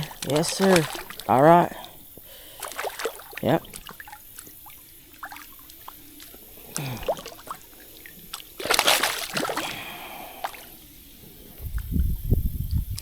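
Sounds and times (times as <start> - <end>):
water splash: 0.0 - 11.0
creek water trickling: 0.0 - 13.0.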